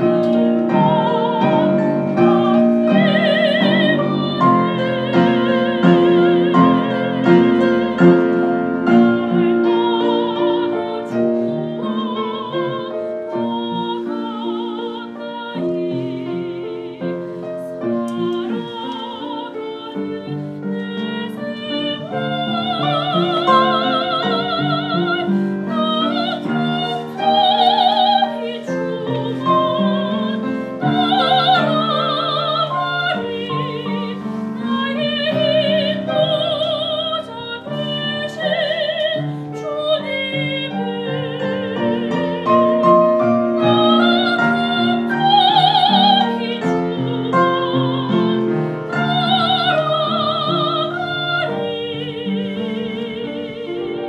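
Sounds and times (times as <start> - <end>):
piano accompaniment: 0.0 - 54.0
soprano singing with vibrato: 0.0 - 54.0.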